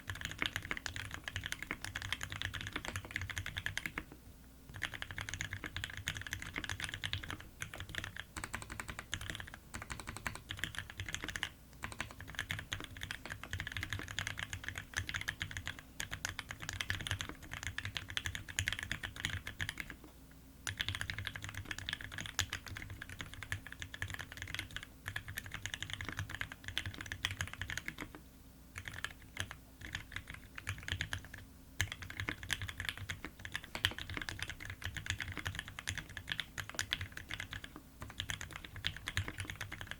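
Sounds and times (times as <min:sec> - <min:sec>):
fast typing on mechanical keyboard: 0:00.0 - 0:04.1, 0:04.7 - 0:20.0, 0:20.6 - 0:28.2, 0:28.8 - 0:39.9.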